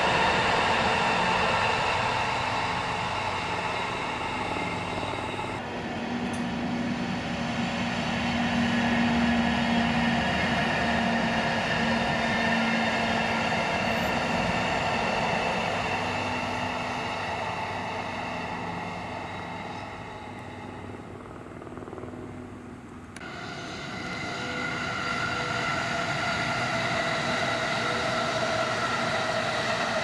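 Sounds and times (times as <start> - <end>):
train wheels rumbling on rails: 0.0 - 21.4, 23.2 - 30.0
low locomotive hum: 0.0 - 30.0.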